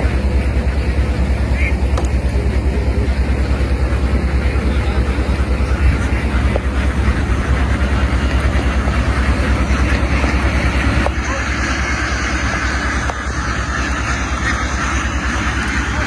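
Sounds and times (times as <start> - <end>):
engine low rapid thrum: 0.0 - 16.0.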